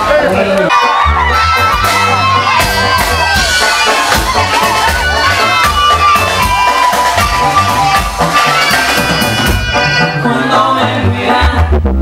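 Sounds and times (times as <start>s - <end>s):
accordion melody: 0.0s - 12.0s
live band music through pa: 0.0s - 12.0s.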